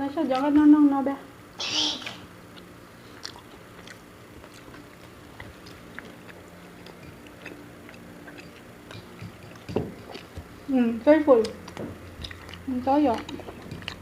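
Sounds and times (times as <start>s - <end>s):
people chewing food: 2.0s - 14.0s.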